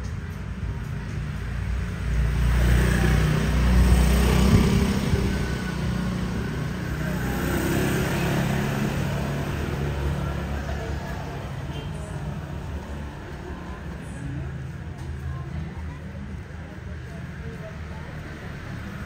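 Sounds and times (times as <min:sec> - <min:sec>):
motor scooters riding past: 0:01.8 - 0:19.0.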